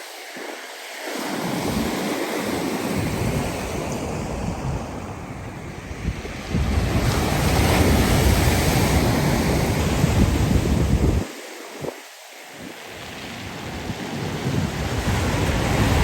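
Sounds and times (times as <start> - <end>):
waves breaking on shore: 0.0 - 16.0
wind buffeting microphone: 0.3 - 16.0.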